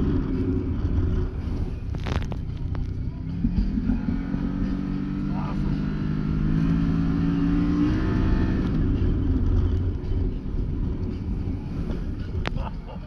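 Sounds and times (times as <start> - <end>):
engine running under throttle: 0.0 - 12.6.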